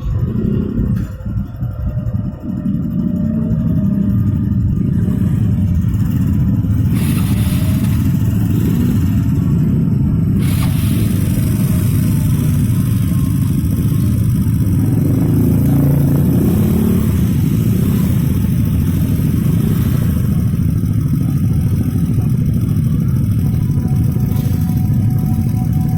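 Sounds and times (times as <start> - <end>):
vehicle engines rumbling: 0.0 - 25.9.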